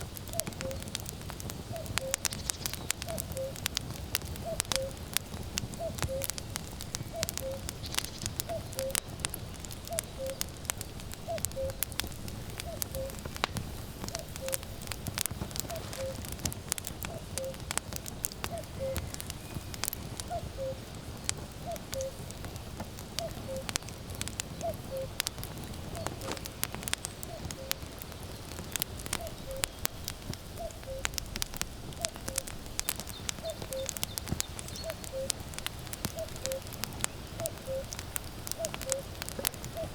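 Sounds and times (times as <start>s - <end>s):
campfire crackling and popping: 0.0s - 39.9s
cuckoo calling: 0.3s - 1.0s, 1.7s - 3.7s, 4.4s - 5.1s, 5.7s - 13.4s, 14.1s - 14.8s, 15.5s - 16.4s, 17.0s - 17.7s, 18.4s - 21.0s, 21.6s - 22.4s, 23.2s - 31.2s, 32.0s - 39.9s.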